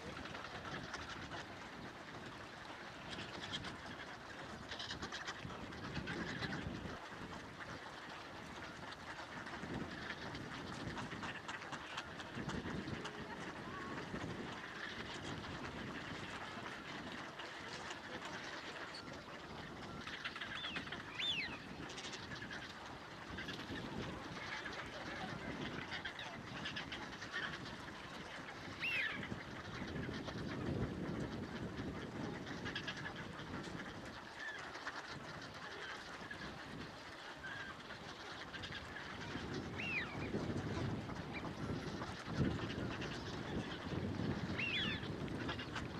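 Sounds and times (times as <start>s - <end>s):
waterbird calls: 0.0s - 45.9s.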